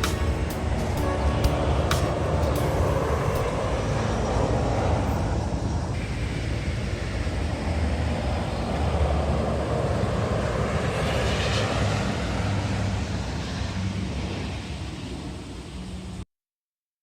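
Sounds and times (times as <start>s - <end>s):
jet airliner passing overhead: 0.0s - 16.2s.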